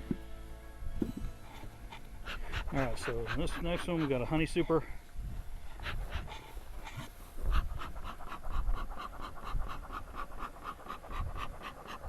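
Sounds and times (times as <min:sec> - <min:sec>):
animal panting: 0:01.4 - 0:12.0.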